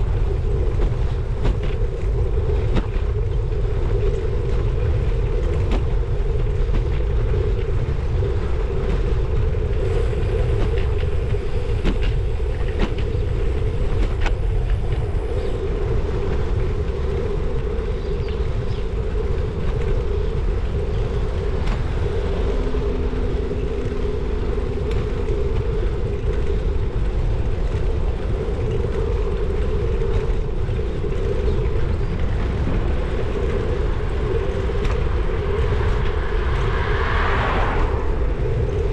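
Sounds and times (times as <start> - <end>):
constant hum: 0.0 - 38.9
wind on microphone: 0.0 - 38.9.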